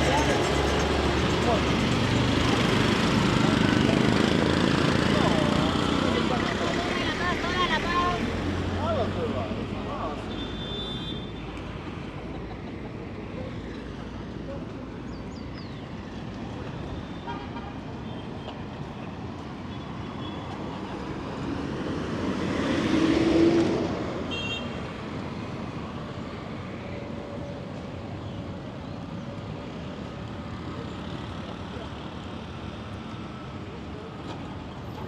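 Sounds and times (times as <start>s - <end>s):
street traffic: 0.0s - 35.0s.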